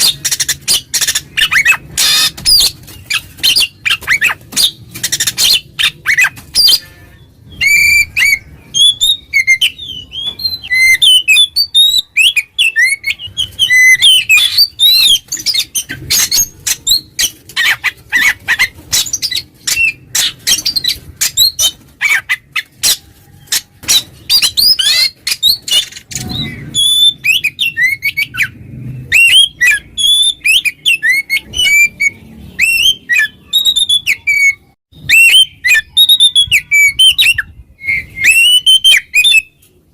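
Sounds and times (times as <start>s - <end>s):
bird singing whistles and chatter: 0.0s - 39.6s.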